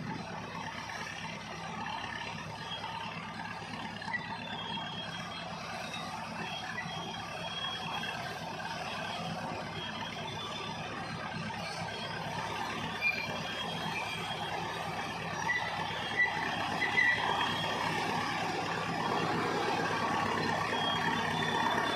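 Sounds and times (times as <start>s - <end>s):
bulldozer diesel engine running: 0.0s - 21.9s
faint high-pitched squeal: 1.8s - 21.9s.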